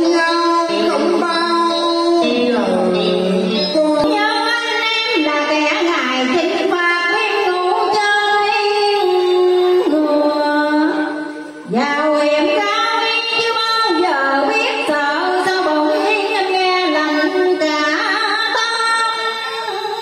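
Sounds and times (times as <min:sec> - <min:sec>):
recorded backing music: 0:00.0 - 0:20.0
woman singing into a microphone: 0:00.0 - 0:20.0.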